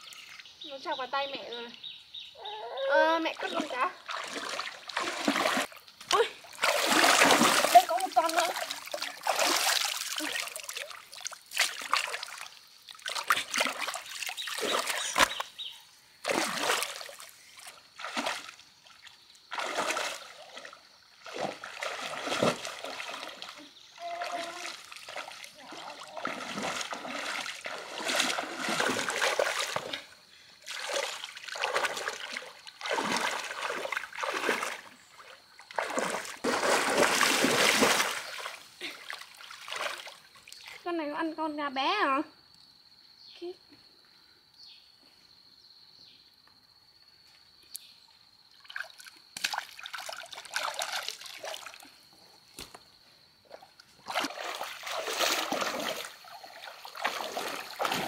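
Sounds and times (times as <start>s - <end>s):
muddy water splashing and sloshing: 3.1s - 40.9s, 48.5s - 52.8s, 53.4s - 58.0s.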